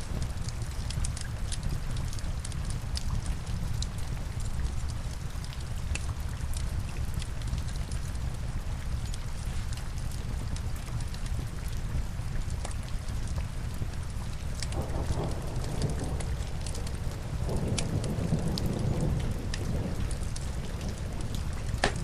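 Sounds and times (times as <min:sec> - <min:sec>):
log fire crackling: 0:00.0 - 0:22.0
steady rain: 0:00.0 - 0:22.0.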